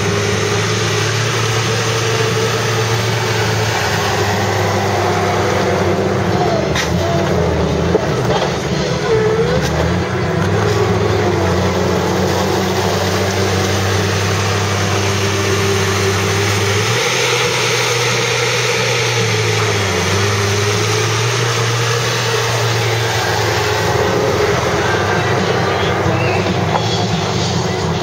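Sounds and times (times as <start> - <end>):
quad engines idling: 0.0 - 28.0.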